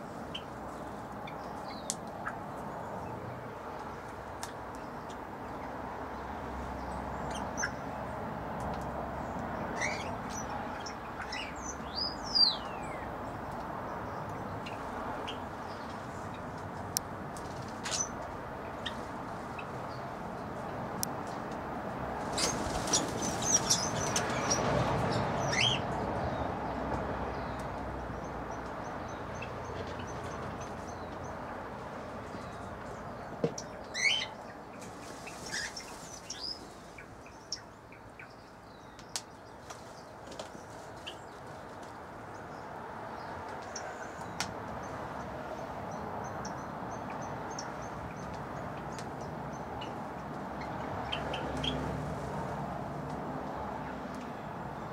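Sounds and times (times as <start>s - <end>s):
small birds chirping: 0.1s - 21.6s, 22.2s - 52.0s.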